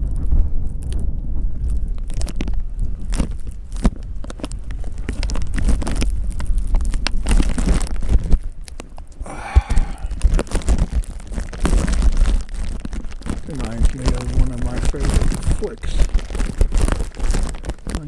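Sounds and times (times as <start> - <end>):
bag crackling on camera: 0.0 - 18.0
wind buffeting microphone: 0.0 - 18.0.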